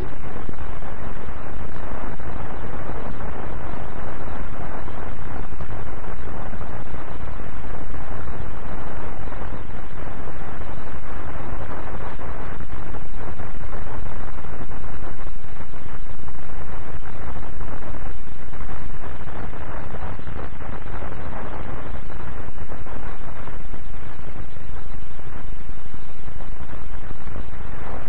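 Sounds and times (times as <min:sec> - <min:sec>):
film soundtrack hiss and rumble: 0:00.0 - 0:28.0.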